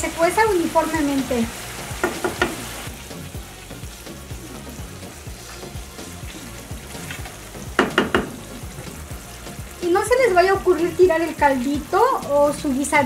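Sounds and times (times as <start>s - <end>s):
beef sizzling in a pan: 0.0s - 13.0s
quiet music with bass line: 0.0s - 13.0s.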